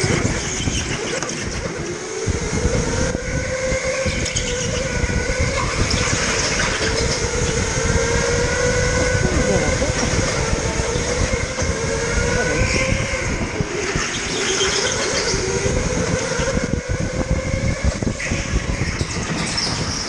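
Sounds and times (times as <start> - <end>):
electric go-kart motor whining: 0.0 - 20.0
low rumbling noise: 0.0 - 20.0.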